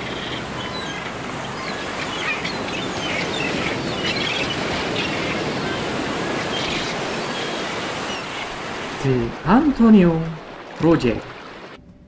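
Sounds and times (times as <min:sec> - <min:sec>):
birds chirping: 0:00.0 - 0:11.7
sea waves washing: 0:00.0 - 0:11.8.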